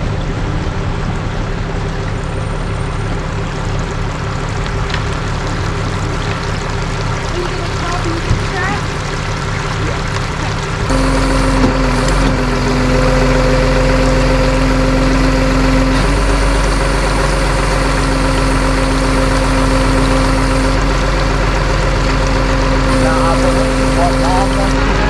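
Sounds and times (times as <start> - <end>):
truck engine running with whine: 0.0 - 25.0.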